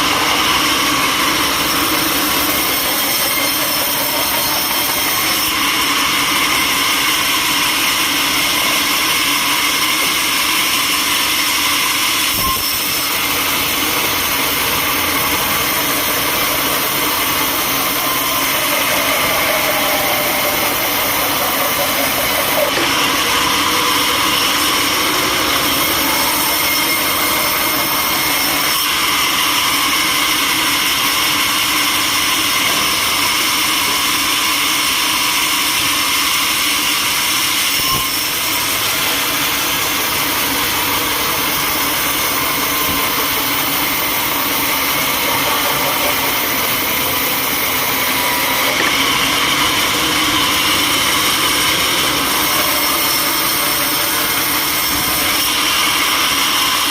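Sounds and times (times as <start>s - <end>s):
sawmill machinery whining: 0.0s - 56.9s.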